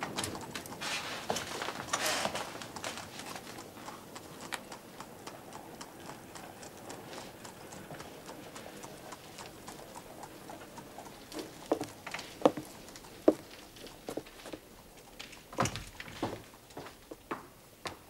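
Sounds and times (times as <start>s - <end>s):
horse hooves clip-clopping on street: 0.0s - 18.0s.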